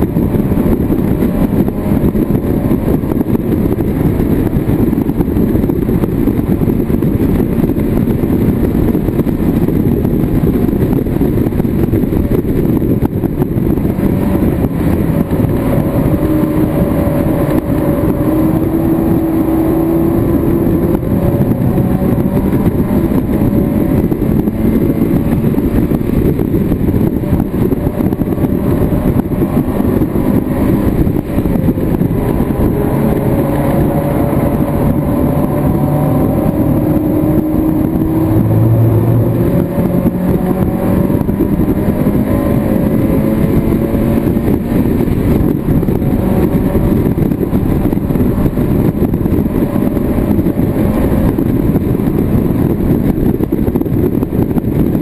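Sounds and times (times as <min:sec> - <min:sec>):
race car engine revving: 0:00.0 - 0:55.0
wind and road noise: 0:00.0 - 0:55.0.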